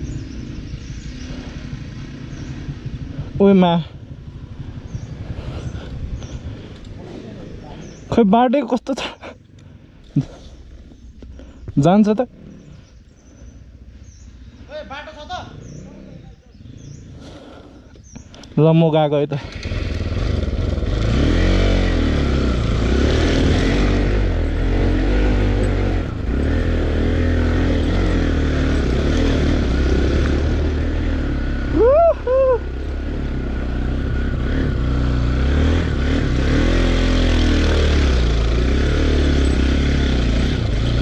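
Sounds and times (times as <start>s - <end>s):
motorcycle engine revving: 0.0s - 8.5s, 9.2s - 41.0s.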